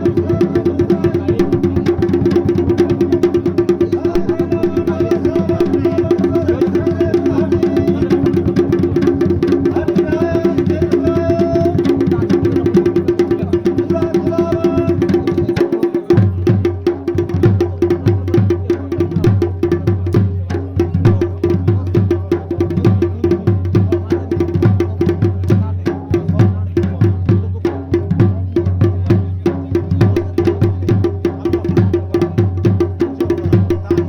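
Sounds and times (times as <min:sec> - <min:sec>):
fast even drumming: 0:00.0 - 0:34.0.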